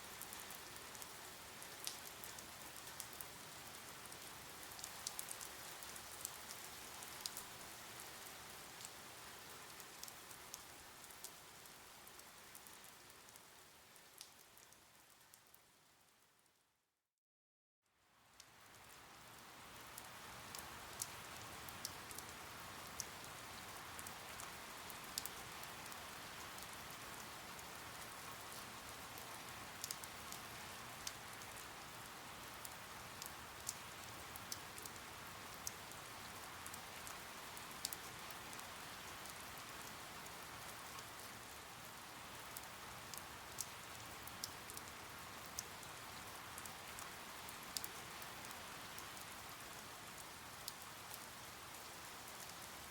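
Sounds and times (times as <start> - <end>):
steady rain falling: 0.0 - 16.6, 17.8 - 52.9.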